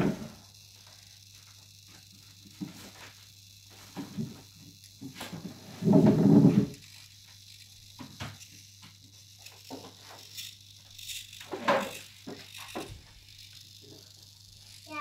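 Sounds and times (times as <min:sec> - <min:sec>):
servo motors whirring: 0:00.0 - 0:15.0
small clicks and rattles: 0:00.4 - 0:15.0.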